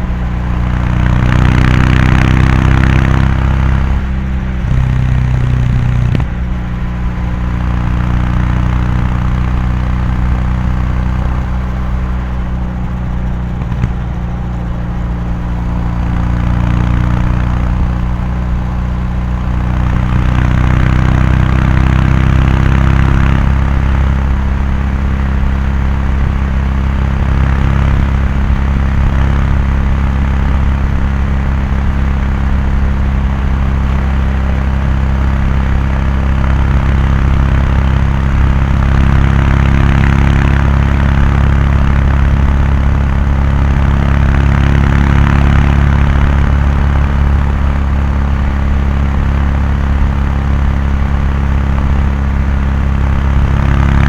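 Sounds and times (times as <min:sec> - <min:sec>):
motorcycle exhaust cruising: 0:00.0 - 0:54.0.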